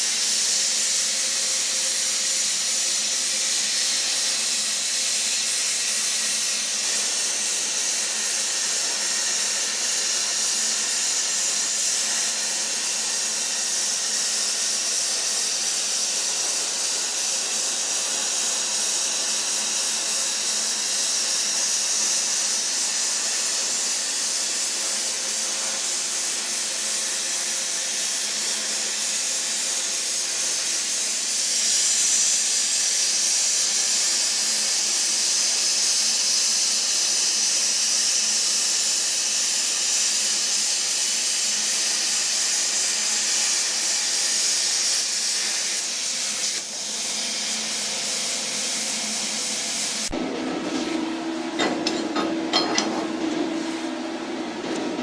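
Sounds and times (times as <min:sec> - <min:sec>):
plasma cutter hissing: 0:00.0 - 0:54.2.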